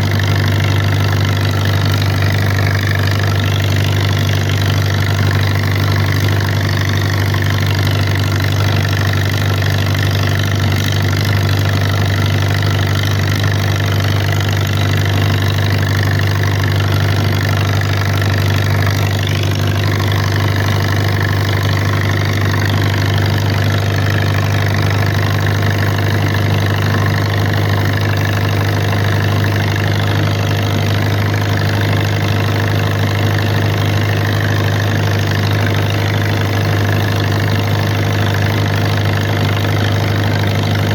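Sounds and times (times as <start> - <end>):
tractor engine running steadily: 0.0 - 40.9.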